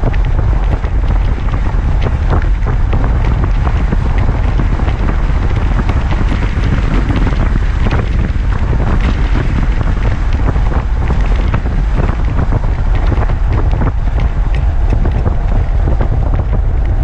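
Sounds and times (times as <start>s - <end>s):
car engine drone: 0.0s - 17.0s
wind and road noise: 0.0s - 17.0s.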